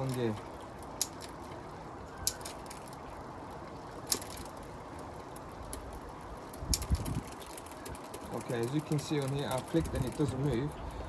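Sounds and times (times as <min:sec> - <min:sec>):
bicycle gear shifter clicks: 0:00.0 - 0:11.0
low steady background noise: 0:00.0 - 0:11.0.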